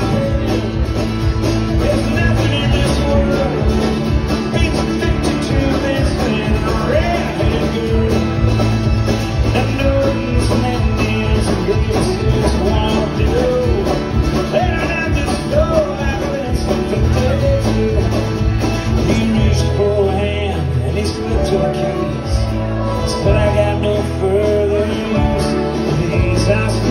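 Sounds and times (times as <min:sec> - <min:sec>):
bluegrass band playing: 0:00.0 - 0:26.9
fiddle: 0:00.0 - 0:26.9.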